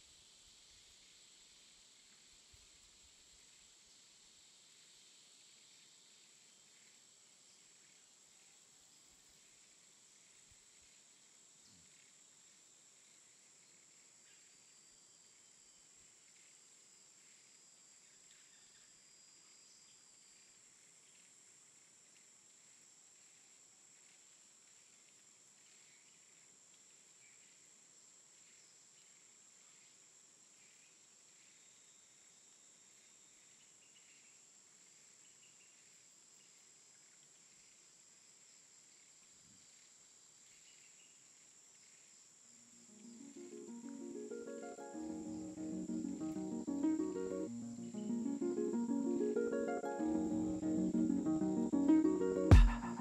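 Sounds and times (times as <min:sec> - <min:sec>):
faint steady hiss: 0:00.0 - 0:53.0.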